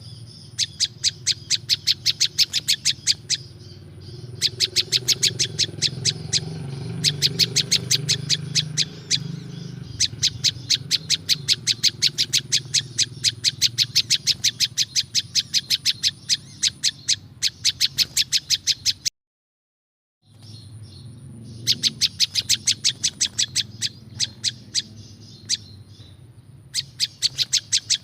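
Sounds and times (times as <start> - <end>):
bird high chip notes: 0.0 - 19.1, 20.8 - 28.0.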